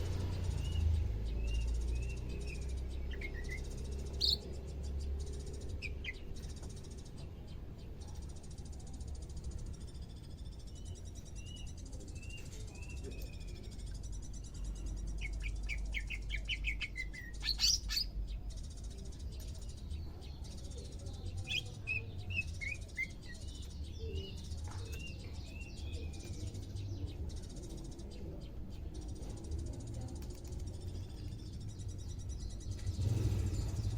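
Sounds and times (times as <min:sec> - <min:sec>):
bird chirping: 0:00.0 - 0:33.9.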